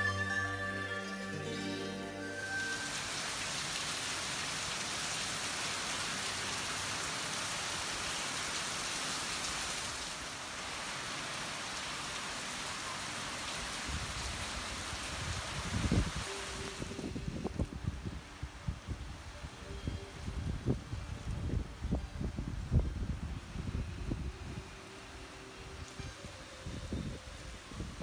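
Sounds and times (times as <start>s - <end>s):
heavy rain on roofs: 2.5s - 25.9s.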